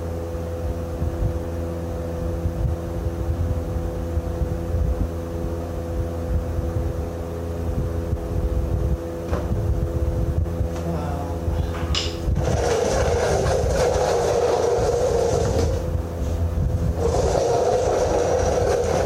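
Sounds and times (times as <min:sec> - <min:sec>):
engine running steadily: 0:00.0 - 0:19.0
steady hum: 0:00.0 - 0:19.0.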